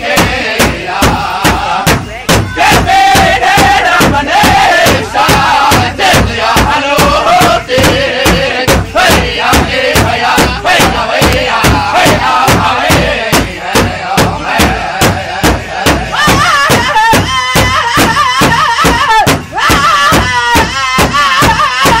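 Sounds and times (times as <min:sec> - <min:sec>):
large drum beating: 0:00.0 - 0:22.0
voices singing a wavering chant: 0:00.0 - 0:22.0.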